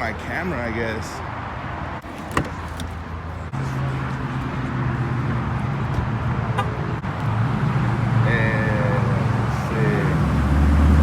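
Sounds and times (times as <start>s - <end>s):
busy car meet noise: 0.0s - 11.0s.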